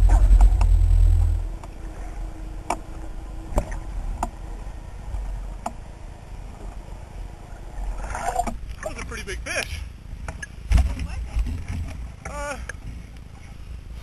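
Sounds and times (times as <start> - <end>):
water rumbling past: 0.0 - 12.3.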